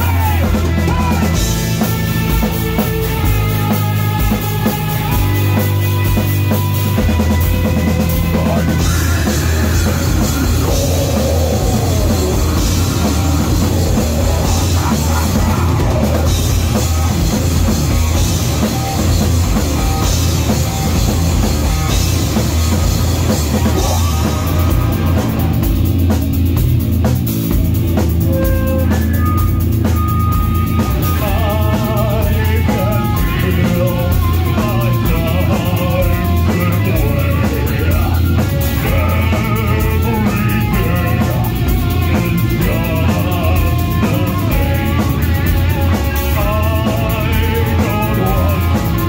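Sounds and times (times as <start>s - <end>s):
bass guitar: 0.0s - 49.0s
heavy distorted guitars: 0.0s - 49.0s
pounding drum kit with cymbals: 0.0s - 49.0s.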